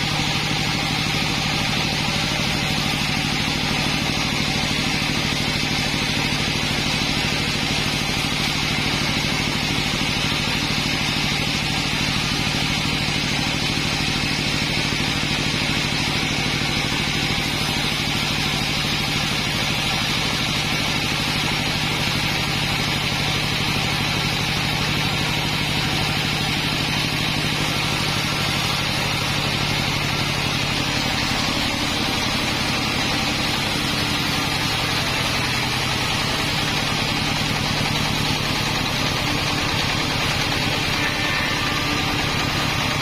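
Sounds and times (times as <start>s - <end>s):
sawmill engine running: 0.0s - 43.0s.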